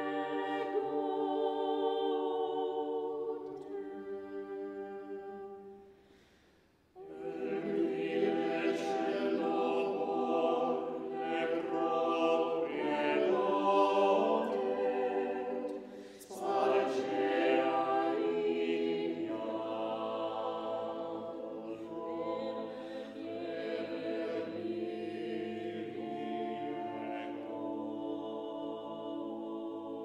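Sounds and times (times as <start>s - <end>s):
choir singing unaccompanied: 0.0s - 5.8s, 7.0s - 30.0s.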